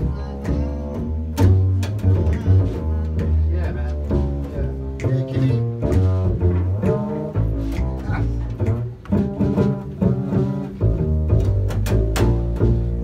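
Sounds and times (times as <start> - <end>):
drums: 0.0 - 13.0
plucked upright double bass: 0.0 - 13.0.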